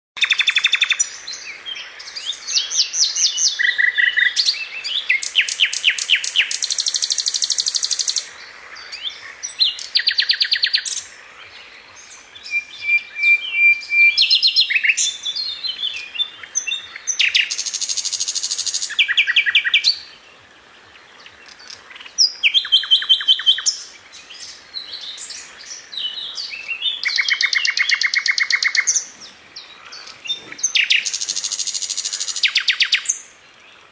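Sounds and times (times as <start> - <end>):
songbird singing trills: 0.2 - 33.9.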